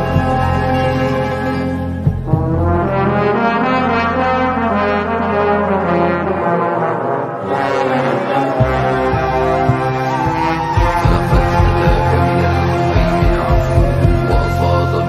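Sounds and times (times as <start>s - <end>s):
deep bass drone: 0.0s - 15.0s
sustained brass chords: 0.0s - 15.0s.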